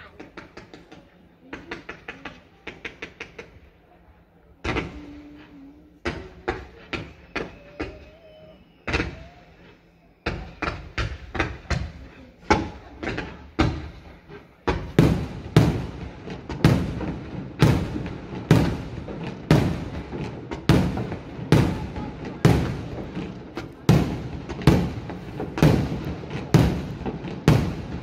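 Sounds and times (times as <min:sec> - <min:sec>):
fireworks banging: 0:00.0 - 0:03.8, 0:04.6 - 0:28.0.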